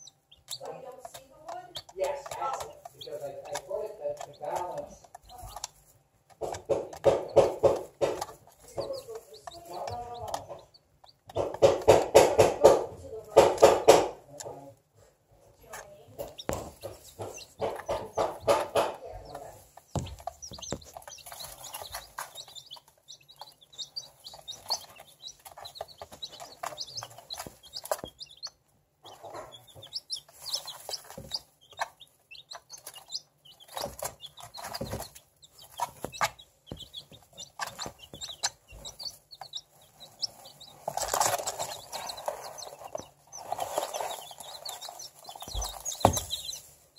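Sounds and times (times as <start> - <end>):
chicks pecking taps: 0.0 - 14.8, 15.5 - 46.9
chicks peeping: 0.0 - 46.9.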